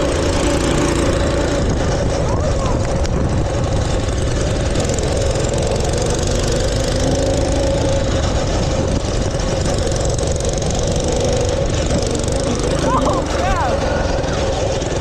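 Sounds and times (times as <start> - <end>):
mini bike engine running: 0.0 - 15.0.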